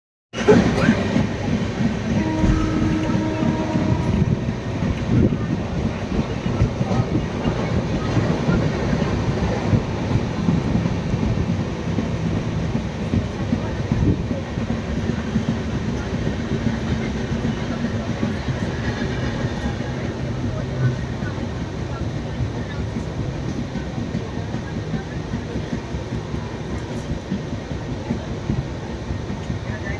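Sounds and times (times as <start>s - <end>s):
train rumbling: 0.4s - 29.9s.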